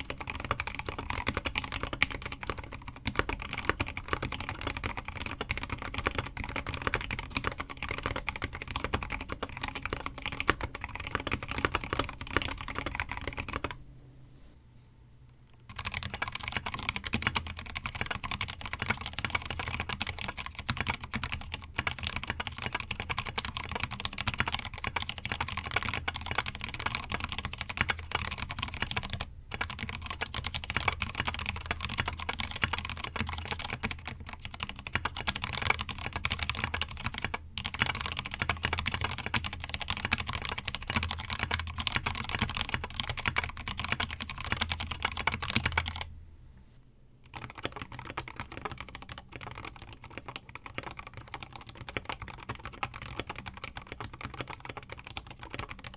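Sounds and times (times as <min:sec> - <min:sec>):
mechanical keyboard typing: 0:00.0 - 0:13.8, 0:15.7 - 0:46.1, 0:47.2 - 0:55.9.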